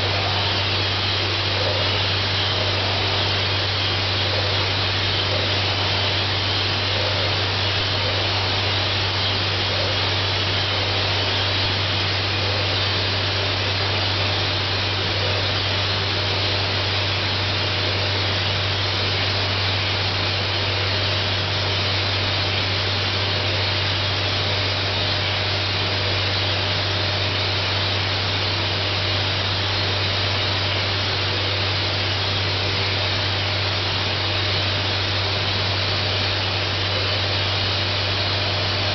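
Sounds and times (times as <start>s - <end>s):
low steady hum: 0.0s - 38.9s
spray gun hissing: 0.0s - 38.9s.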